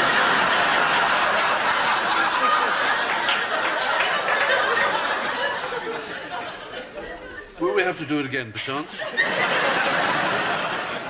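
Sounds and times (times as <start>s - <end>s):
group of people laughing: 0.0s - 7.8s, 8.8s - 11.0s.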